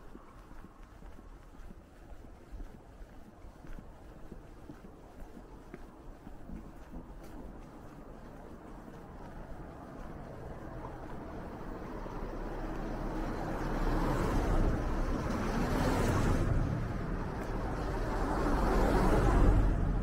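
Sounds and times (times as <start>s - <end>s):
car passing on street: 0.0s - 20.0s.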